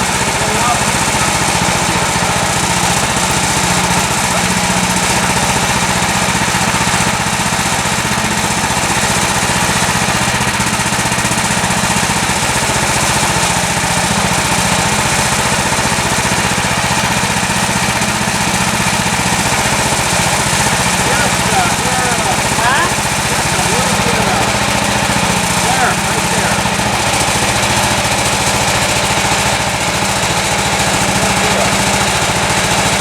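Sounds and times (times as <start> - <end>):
small gas engine running: 0.0 - 33.0.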